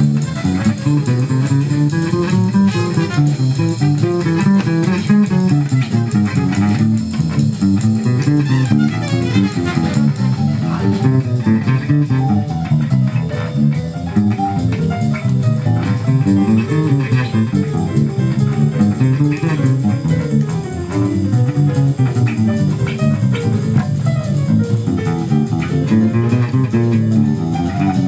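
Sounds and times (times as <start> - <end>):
electric bass plucked notes: 0.0 - 28.0.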